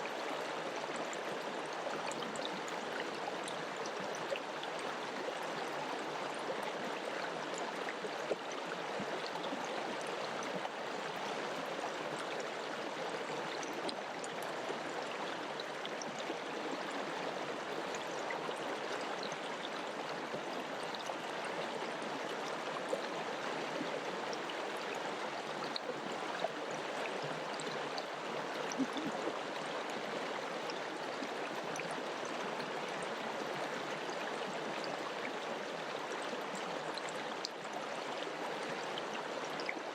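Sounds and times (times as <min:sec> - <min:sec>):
faint water splashes: 0:05.9 - 0:39.9.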